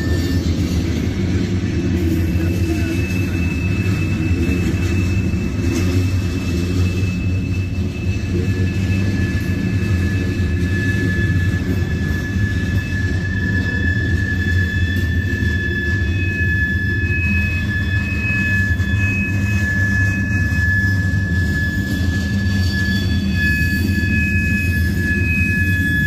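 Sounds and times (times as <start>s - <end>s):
high-pitched squeal: 0.0s - 26.0s
train wheels rumbling on rail: 0.0s - 26.0s.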